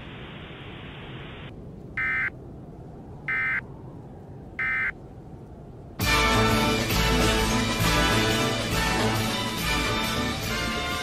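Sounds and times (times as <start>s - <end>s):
low hiss: 0.0s - 10.6s.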